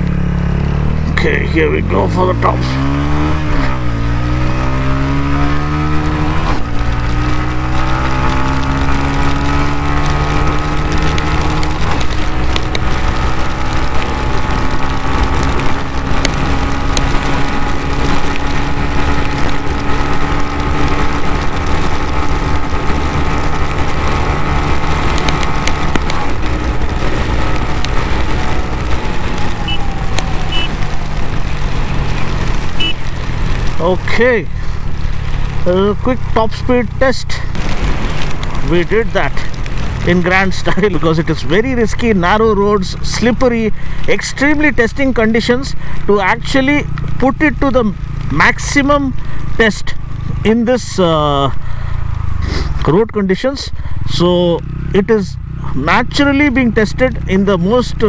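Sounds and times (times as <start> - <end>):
motorcycle engine at full throttle: 0.0 - 58.0.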